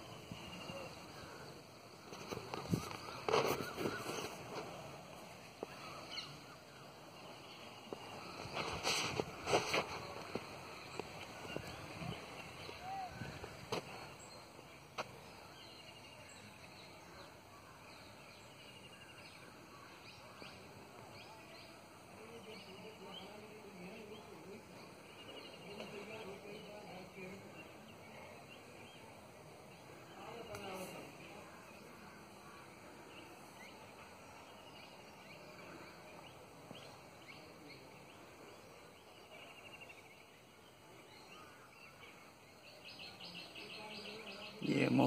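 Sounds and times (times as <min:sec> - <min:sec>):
outdoor background hiss: 0:00.0 - 0:45.0
small birds chirping: 0:00.0 - 0:45.0.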